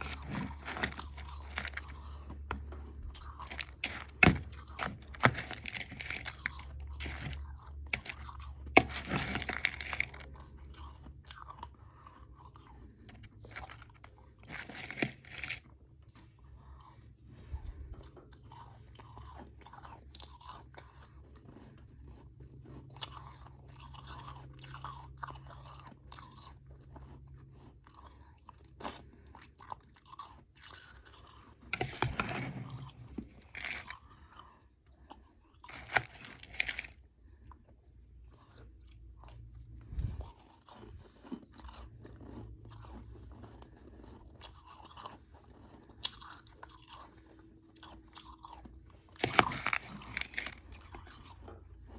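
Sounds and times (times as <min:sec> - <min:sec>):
chewing crunchy ice: 0:00.0 - 0:51.9.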